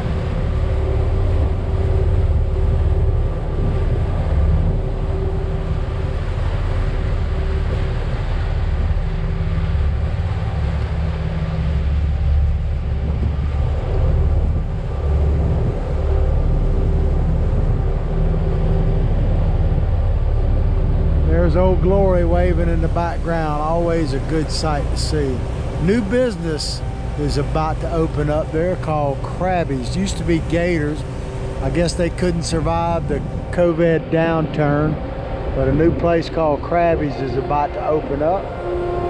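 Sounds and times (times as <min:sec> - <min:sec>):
boat engines humming: 0:00.0 - 0:39.0
wind gusting on microphone: 0:00.0 - 0:39.0.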